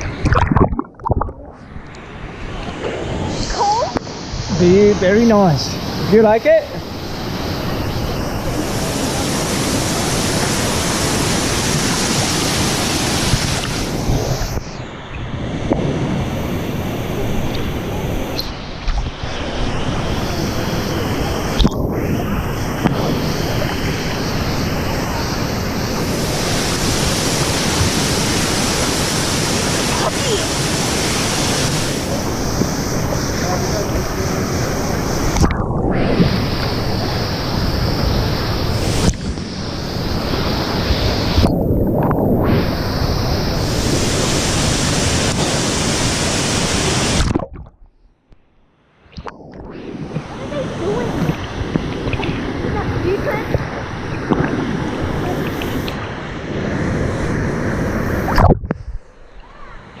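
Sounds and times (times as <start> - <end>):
waterfall rushing: 3.1 - 14.7, 16.0 - 47.4, 49.8 - 56.2.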